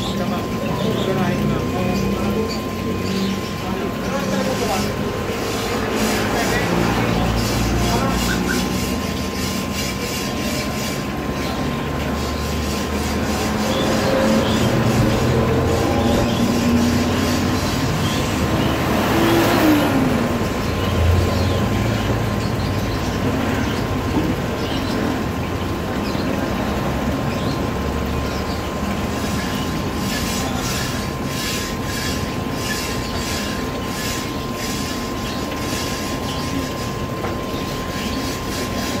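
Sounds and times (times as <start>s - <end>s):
aquarium air pump: 0.0s - 39.0s.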